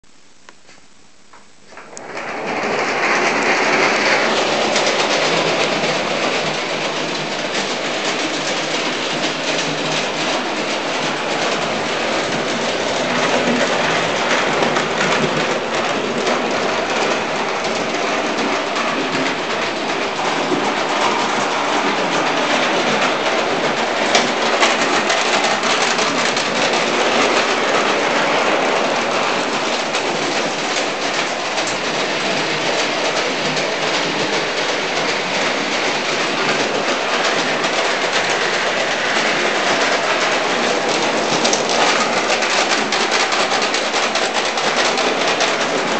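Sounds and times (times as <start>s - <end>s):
toy train wheels clattering: 1.9s - 45.9s.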